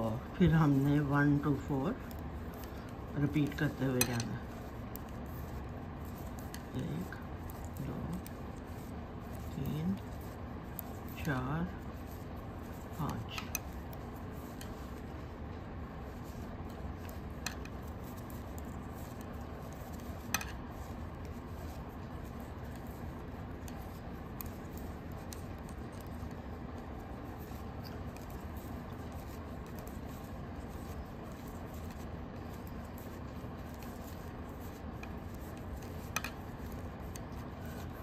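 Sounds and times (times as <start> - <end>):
low background hum: 0.0 - 38.0.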